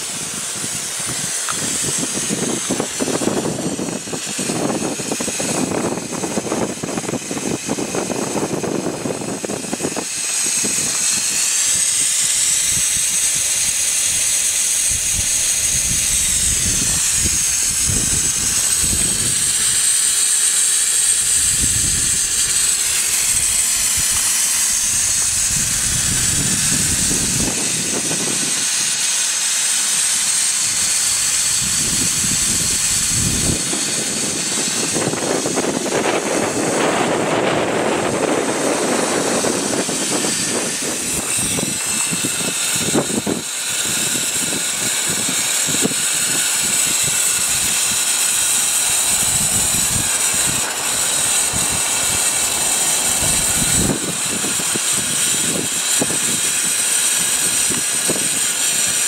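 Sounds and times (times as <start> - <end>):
steam hissing: 0.0 - 59.0.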